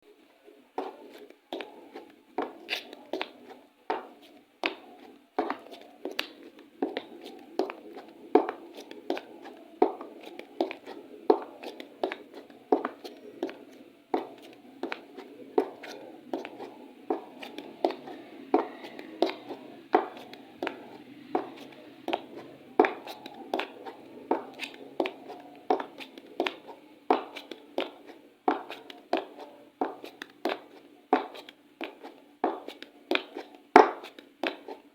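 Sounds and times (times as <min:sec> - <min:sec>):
high heels clicking on hard floor: 0:05.4 - 0:13.6, 0:14.2 - 0:15.8, 0:16.4 - 0:34.8.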